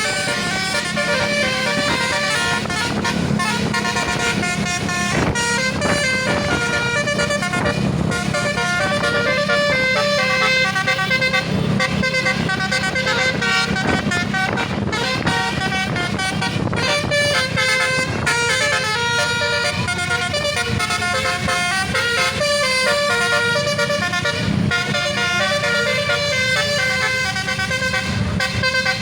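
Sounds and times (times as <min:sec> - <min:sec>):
musical bus air horn melody: 0:00.0 - 0:29.0.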